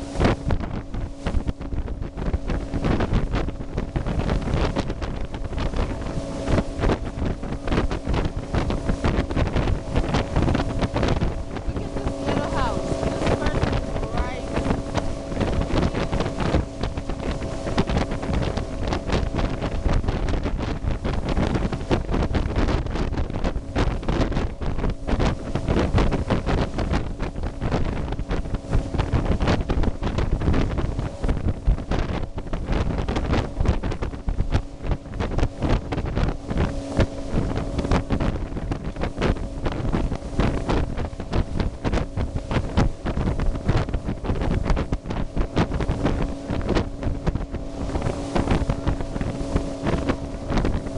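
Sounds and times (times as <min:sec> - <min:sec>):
motorboat engine humming: 0:00.0 - 0:50.9
wind buffeting microphone: 0:00.0 - 0:50.9.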